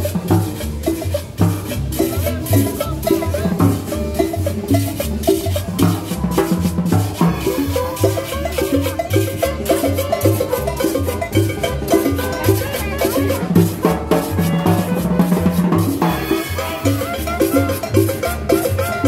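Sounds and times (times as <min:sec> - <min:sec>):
conga drum: 0:00.0 - 0:19.0
drum kit: 0:00.0 - 0:19.0
live band playing dance music: 0:00.0 - 0:19.0
upright bass: 0:00.0 - 0:19.0.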